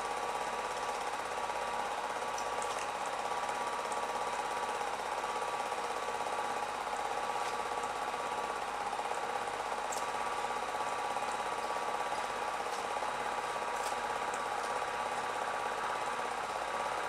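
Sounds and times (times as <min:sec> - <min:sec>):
film projector whirring: 0:00.0 - 0:17.0.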